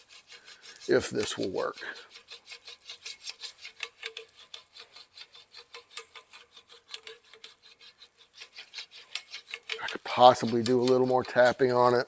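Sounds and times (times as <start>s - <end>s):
faint tool scraping metal tube: 0.0s - 12.0s.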